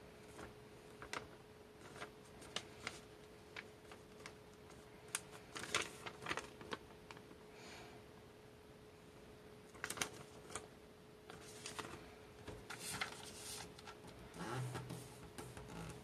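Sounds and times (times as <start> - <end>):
faint steady hum: 0.0 - 16.0
paper rustling and crackling: 0.2 - 7.4, 9.7 - 10.7, 11.3 - 16.0.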